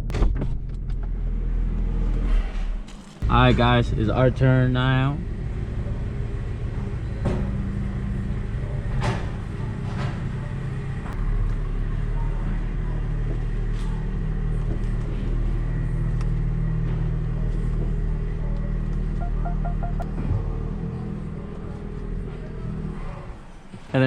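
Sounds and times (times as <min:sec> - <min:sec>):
deep engine rumble: 0:03.2 - 0:23.0.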